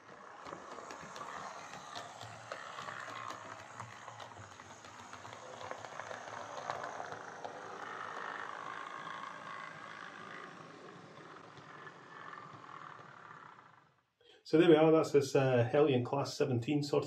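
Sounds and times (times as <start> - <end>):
wheels clicking over track joints: 0.0 - 13.9
model locomotive motor whirring: 0.0 - 14.2.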